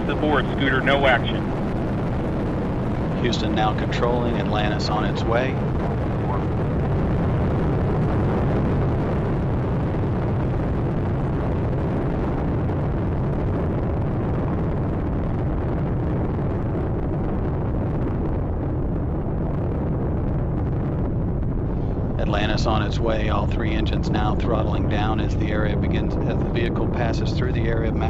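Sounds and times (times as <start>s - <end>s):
rocket engines rumbling: 0.0s - 28.0s.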